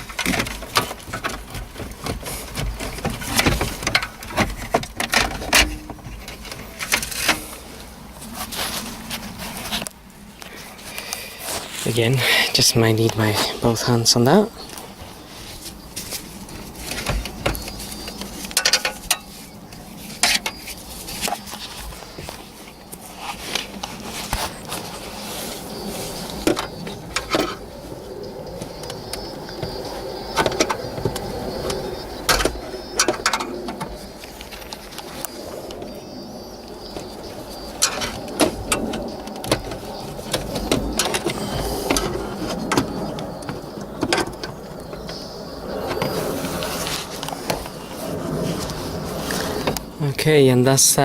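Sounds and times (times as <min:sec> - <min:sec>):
cables rustling: 0:00.0 - 0:51.0.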